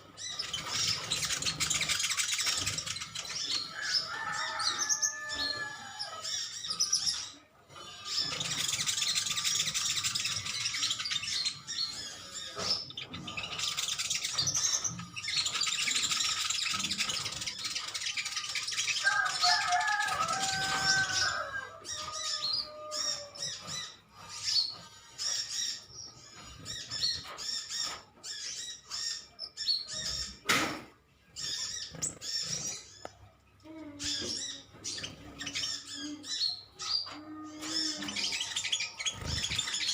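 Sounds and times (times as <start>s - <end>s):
birds chattering and twittering: 0.0s - 39.9s.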